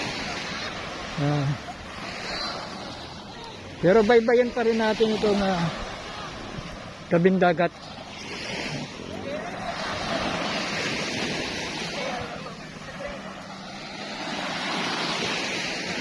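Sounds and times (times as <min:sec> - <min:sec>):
distant voices: 0:00.0 - 0:16.0
surf washing up on beach: 0:00.0 - 0:16.0.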